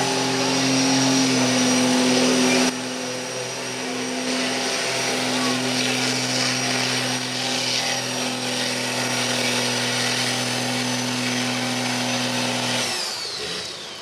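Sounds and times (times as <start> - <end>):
diesel truck engine at high revs: 0.0 - 14.0.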